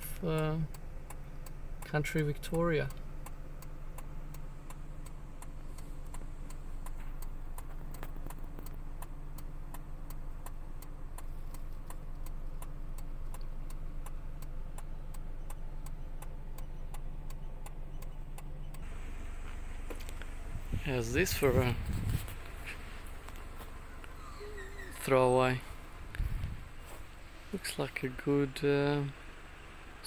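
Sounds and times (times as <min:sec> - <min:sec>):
car engine idling: 0:00.0 - 0:30.0
turn signal ticking: 0:00.0 - 0:30.0.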